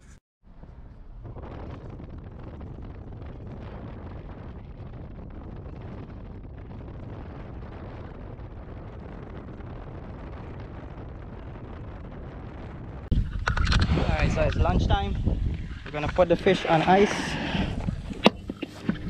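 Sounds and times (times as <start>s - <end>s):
wind buffeting microphone: 0.5s - 19.0s.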